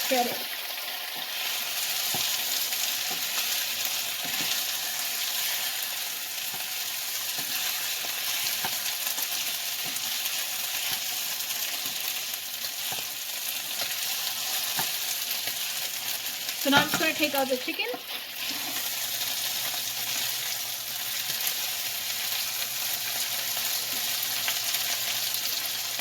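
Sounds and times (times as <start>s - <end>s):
chicken sizzling in fat: 0.0s - 26.0s.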